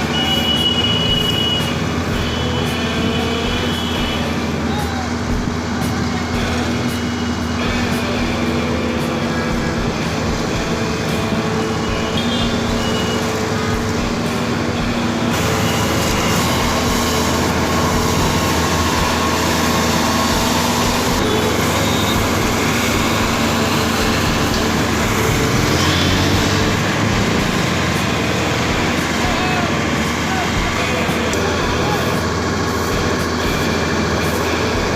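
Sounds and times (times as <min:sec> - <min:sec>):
heavy diesel machinery running: 0:00.0 - 0:34.9.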